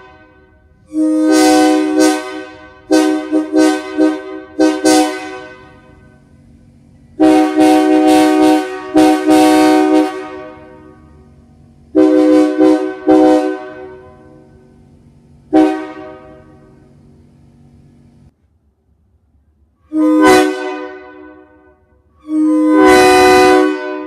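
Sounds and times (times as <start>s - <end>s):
locomotive air horn blasts: 0.0s - 14.8s, 15.5s - 17.0s, 19.8s - 24.0s.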